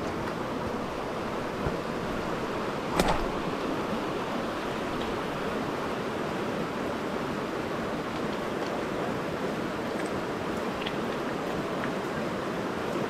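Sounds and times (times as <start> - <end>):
river rushing over gravel: 0.0 - 13.0.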